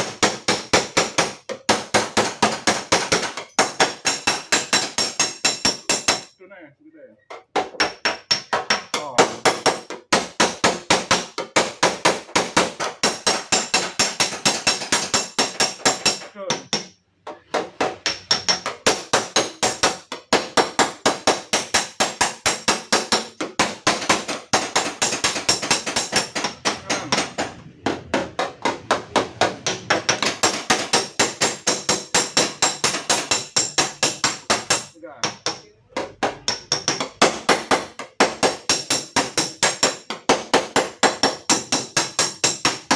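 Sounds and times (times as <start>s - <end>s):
hammer striking steel door panel: 7.3s - 42.9s.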